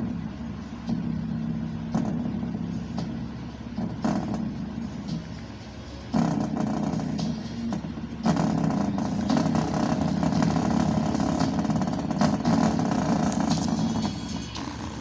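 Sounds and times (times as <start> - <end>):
speaker buzzing and distorting: 0.0 - 15.0.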